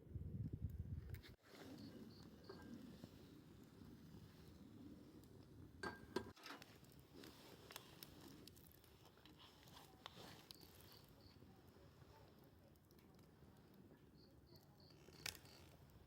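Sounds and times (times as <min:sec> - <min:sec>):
campfire crackles: 0:00.4 - 0:16.0
campfire hiss: 0:01.4 - 0:05.8, 0:06.4 - 0:16.0.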